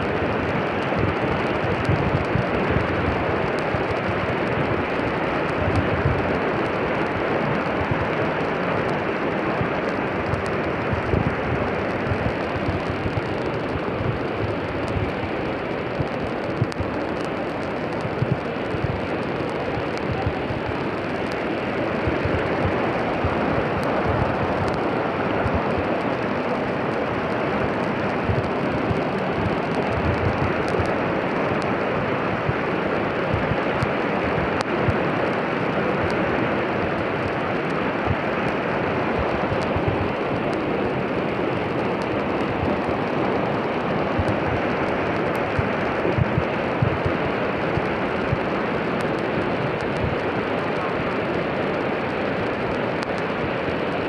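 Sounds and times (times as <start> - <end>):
floodwater rushing: 0.0 - 54.0
wind gusting on microphone: 0.0 - 54.0.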